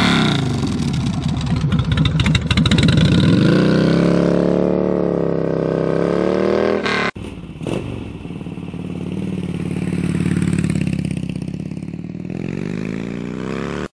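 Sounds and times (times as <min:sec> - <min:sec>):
motorcycle accelerating away: 0:00.0 - 0:13.9
motorcycle engine revving: 0:00.0 - 0:13.9.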